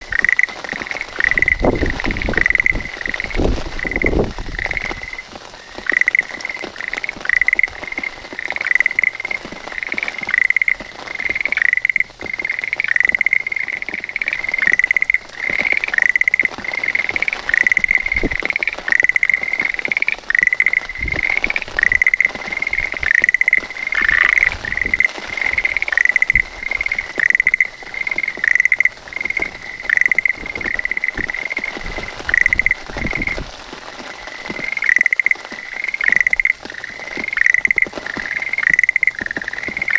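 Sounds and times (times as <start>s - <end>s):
tree frog calling: 0.0s - 39.9s.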